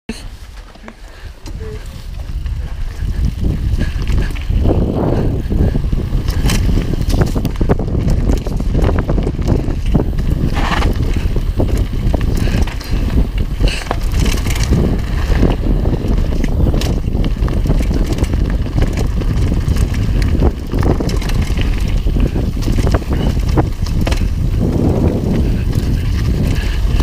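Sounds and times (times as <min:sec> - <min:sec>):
bike clicks and rattles: 0:00.1 - 0:27.0
wind rumble on microphone: 0:00.1 - 0:27.0
tyres crunching on gravel: 0:00.3 - 0:27.0.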